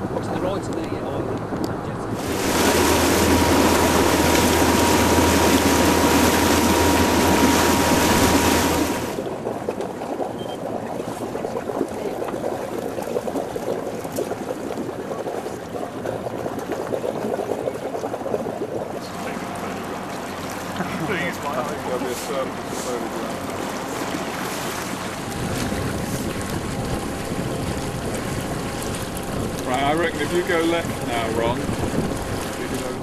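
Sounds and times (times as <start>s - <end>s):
water lapping: 0.0s - 33.0s
wind and water rushing: 0.0s - 33.0s.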